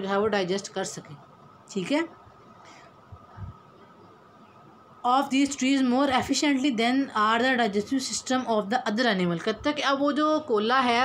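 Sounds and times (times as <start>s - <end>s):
thin steady hum: 0.0s - 11.0s.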